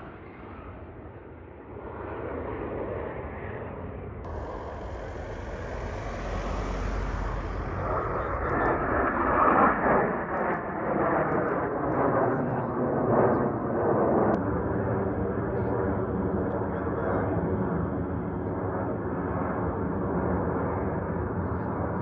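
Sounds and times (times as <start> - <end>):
fighter jets passing overhead: 0.0 - 22.0.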